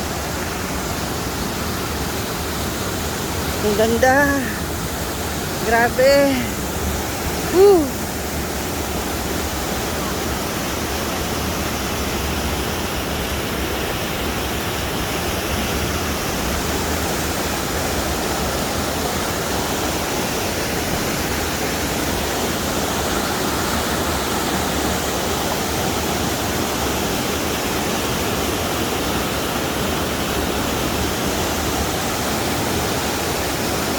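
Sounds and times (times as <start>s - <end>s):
falling water rushing: 0.0s - 33.9s.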